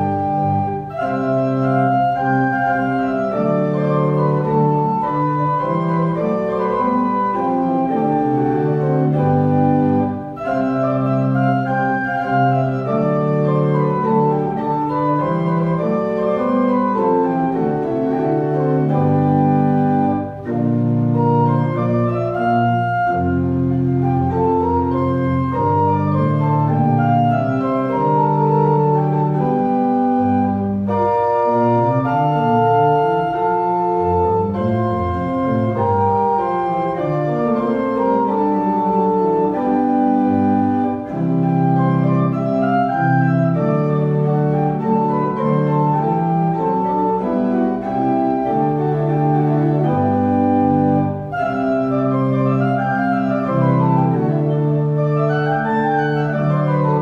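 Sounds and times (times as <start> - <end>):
organ playing held chords: 0.0 - 57.0.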